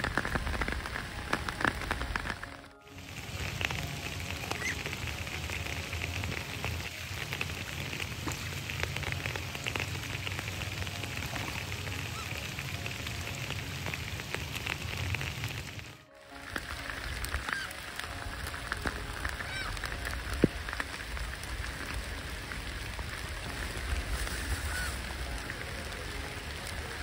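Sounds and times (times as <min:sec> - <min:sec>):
rain falling on water: 0:00.0 - 0:27.0.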